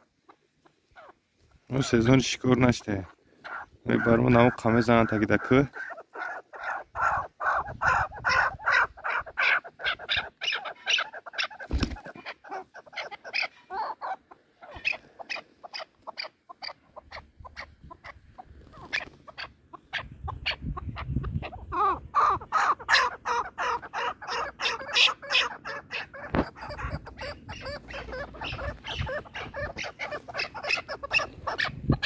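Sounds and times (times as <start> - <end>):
partridge clucking call: 0.0 - 32.0.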